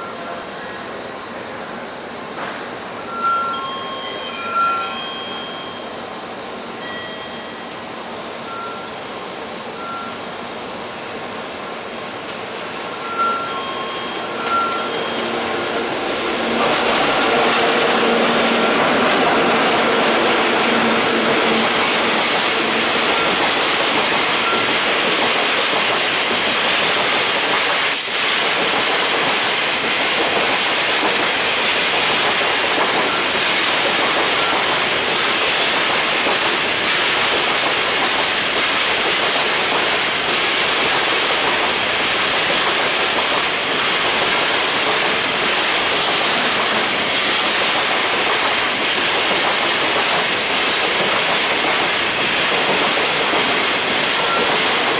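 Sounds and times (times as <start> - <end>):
train wheels on rails: 0.0 - 54.9.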